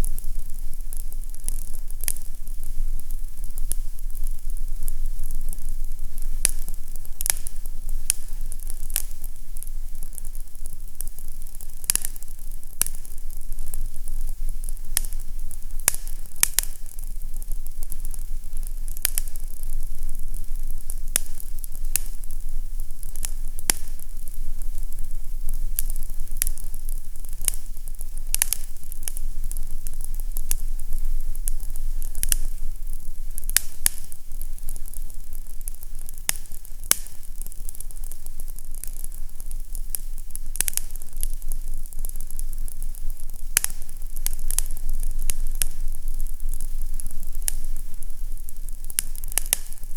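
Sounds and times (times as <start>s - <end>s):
fire crackling in a fireplace: 0.0s - 49.9s.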